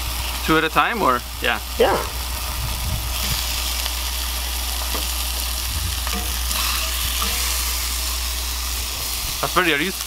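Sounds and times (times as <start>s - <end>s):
meat patties sizzling in skillet: 0.0s - 10.0s.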